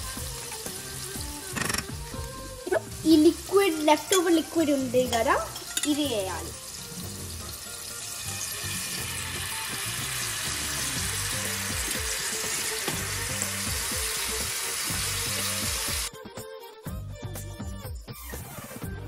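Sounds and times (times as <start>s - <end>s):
paste sizzling in a pan: 0.0s - 16.1s
background music: 0.0s - 19.0s.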